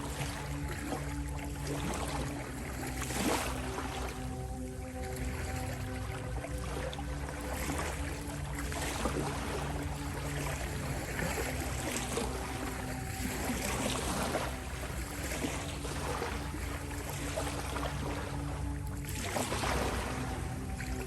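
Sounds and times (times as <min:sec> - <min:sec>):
ocean waves splashing: 0:00.0 - 0:21.0
sustained steady music tones: 0:00.0 - 0:21.0.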